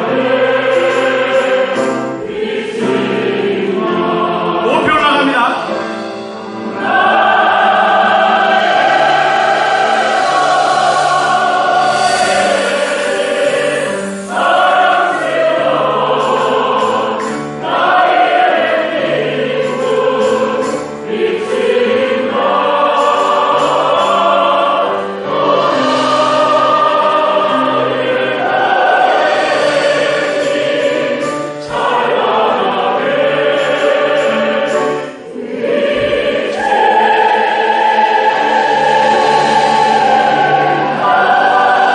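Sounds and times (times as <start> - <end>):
group of voices singing: 0.0 - 41.9
instrumental accompaniment: 0.0 - 41.9.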